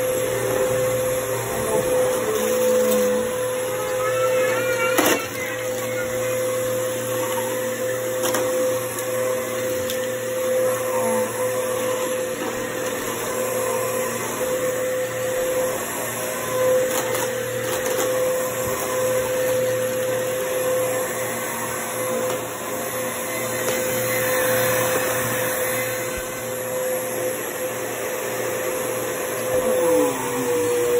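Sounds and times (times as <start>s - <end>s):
vacuum cleaner motor whine: 0.0s - 30.9s.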